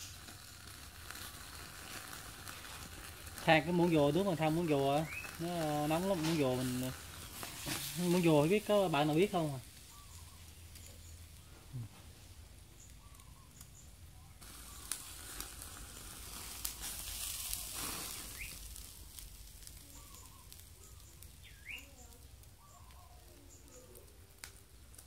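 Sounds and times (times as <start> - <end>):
meat sizzling on grill: 0.0 - 13.8, 14.4 - 25.0
fire crackling and popping: 0.0 - 25.0.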